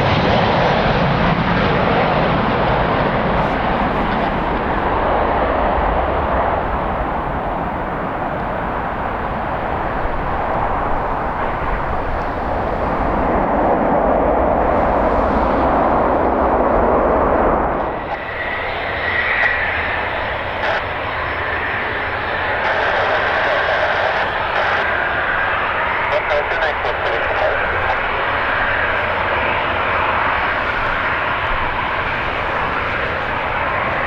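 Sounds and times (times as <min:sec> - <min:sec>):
jet engine whine: 0:00.0 - 0:34.0
wind rumble on microphone: 0:00.0 - 0:34.0.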